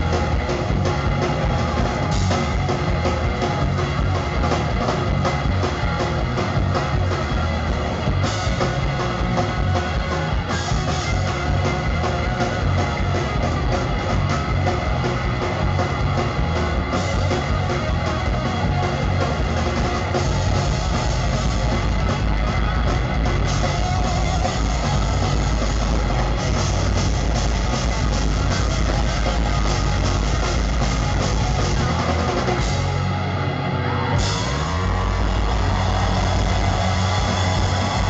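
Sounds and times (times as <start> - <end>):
steady drum beat: 0.0 - 33.1, 34.2 - 38.0
bass guitar: 0.0 - 38.0
electric guitars: 0.0 - 38.0.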